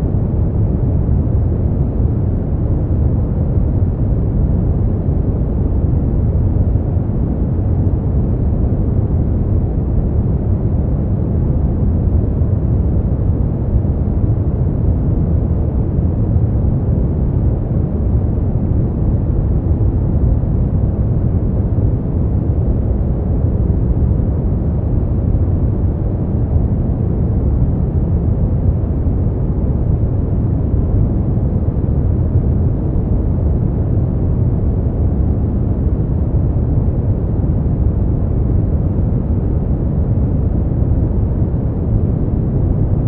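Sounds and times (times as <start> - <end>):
brown noise rumble: 0.0 - 43.0.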